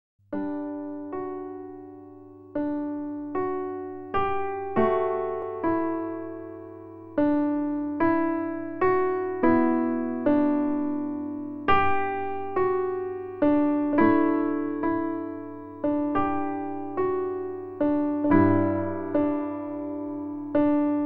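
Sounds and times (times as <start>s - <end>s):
piano playing slow chords: 0.4s - 21.0s.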